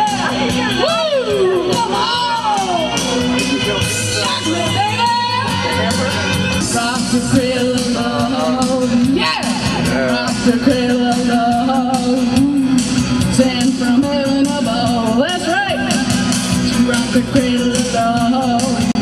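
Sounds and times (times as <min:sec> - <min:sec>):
woman singing into a microphone: 0:00.0 - 0:03.4, 0:04.1 - 0:06.0, 0:06.6 - 0:19.0
drums: 0:00.0 - 0:19.0
rock band playing: 0:00.0 - 0:19.0.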